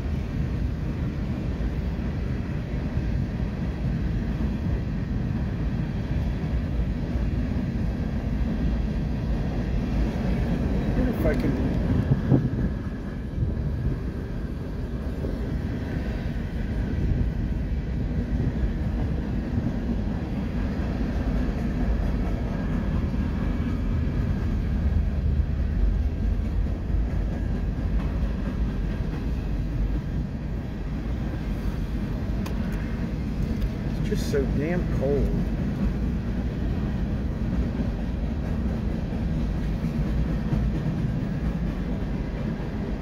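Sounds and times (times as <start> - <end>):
freight train cars rolling past: 0.0 - 43.0.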